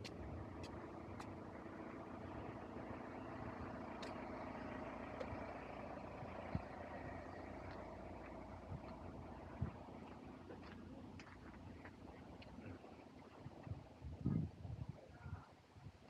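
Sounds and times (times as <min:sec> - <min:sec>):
engine humming at low revs: 0:00.0 - 0:16.0.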